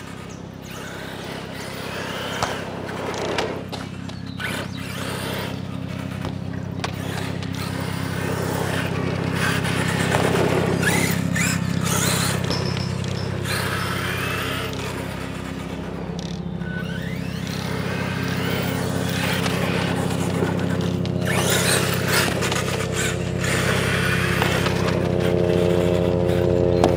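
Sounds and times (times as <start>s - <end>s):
electric motor whine: 0.0s - 26.9s
steady low hum: 0.0s - 26.9s
tyre and ground noise: 0.0s - 26.9s.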